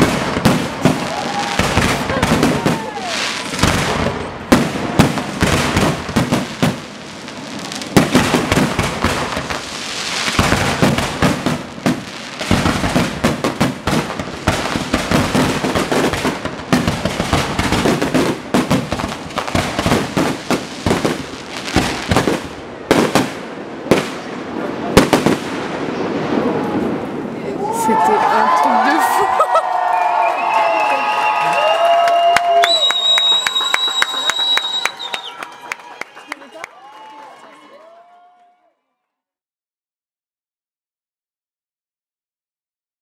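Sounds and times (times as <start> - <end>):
fireworks bursting and crackling: 0.0 - 36.7.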